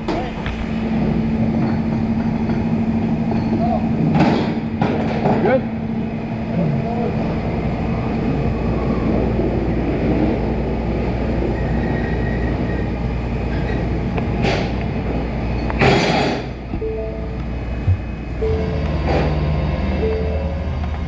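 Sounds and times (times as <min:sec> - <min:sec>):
road and chassis noise: 0:00.0 - 0:21.0
truck engine rumble: 0:00.0 - 0:21.0.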